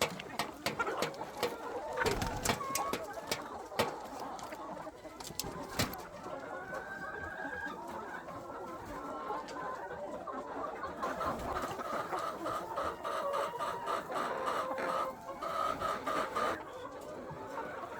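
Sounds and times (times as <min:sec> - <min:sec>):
chickens clucking: 0:00.0 - 0:17.9.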